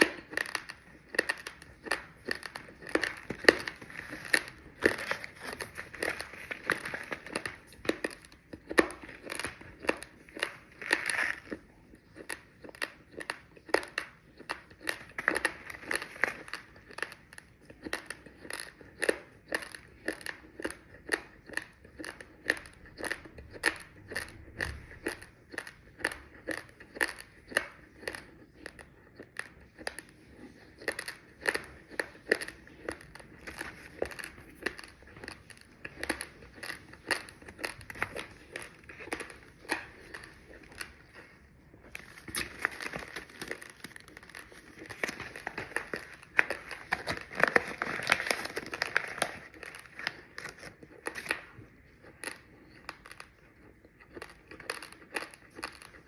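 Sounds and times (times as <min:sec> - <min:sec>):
raw rice being chewed: 0:00.0 - 0:56.0.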